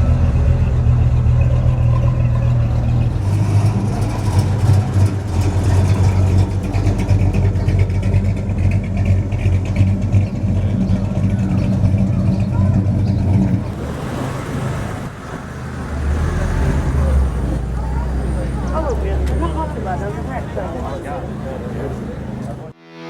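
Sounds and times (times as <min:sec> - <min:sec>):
car engine idling: 0:00.0 - 0:22.8.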